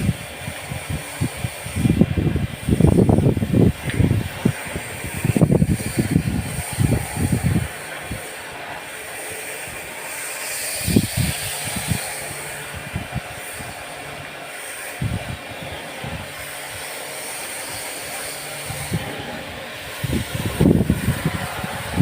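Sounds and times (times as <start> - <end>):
steady hissing: 0.0 - 22.0.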